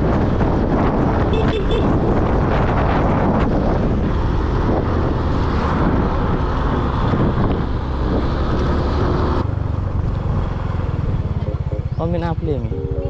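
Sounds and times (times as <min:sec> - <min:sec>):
wind buffeting microphone: 0:00.0 - 0:11.9
vehicle running noise: 0:00.0 - 0:13.0.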